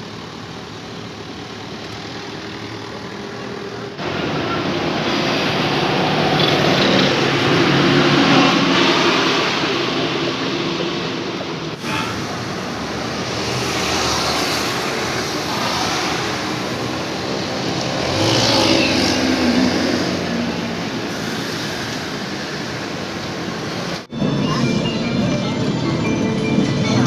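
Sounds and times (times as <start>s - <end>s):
traffic passing on wet pavement: 0.0s - 24.1s
bus engine and road noise: 0.0s - 27.0s.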